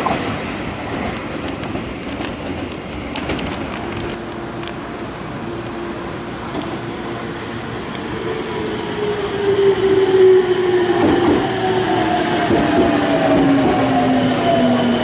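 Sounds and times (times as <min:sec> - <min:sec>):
electric train pulling in: 0:00.0 - 0:15.0.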